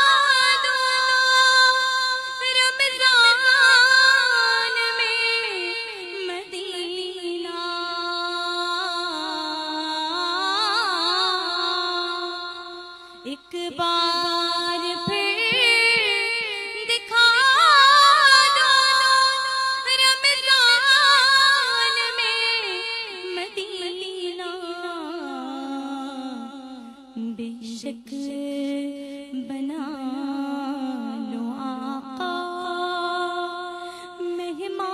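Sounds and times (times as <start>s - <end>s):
woman singing devotional song: 0.0s - 34.9s.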